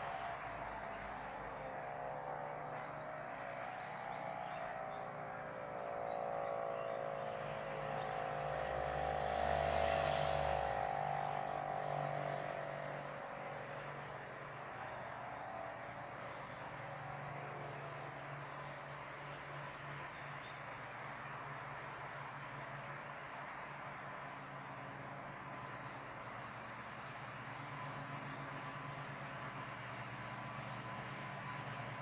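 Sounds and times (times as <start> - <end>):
motor sirens steady tone: 0.0 - 32.0
birds chirping: 0.2 - 32.0.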